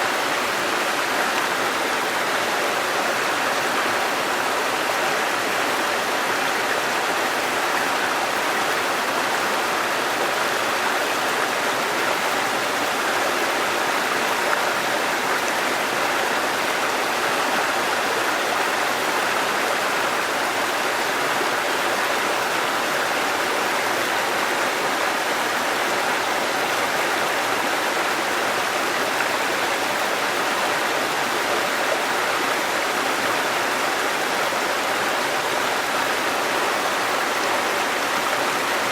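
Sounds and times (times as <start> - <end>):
waterfall and rushing stream: 0.0 - 38.9.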